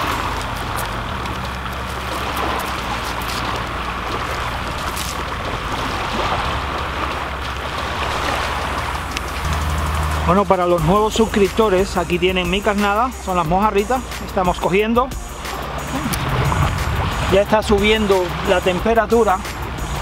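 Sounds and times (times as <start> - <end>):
low hum: 0.0 - 20.0
small waves lapping: 0.0 - 20.0
wind: 0.0 - 20.0.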